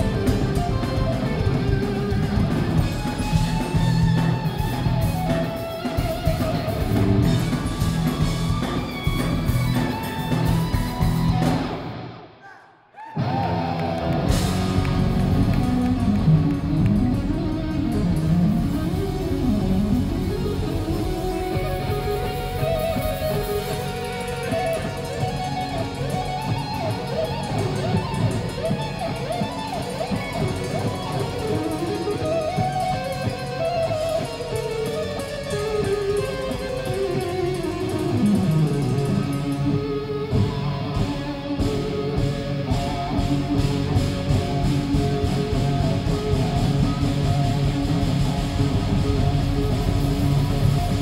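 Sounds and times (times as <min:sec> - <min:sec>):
bass and drums: 0:00.0 - 0:12.2, 0:13.2 - 0:51.0
electric guitar lead melody: 0:00.0 - 0:12.4, 0:13.2 - 0:51.0.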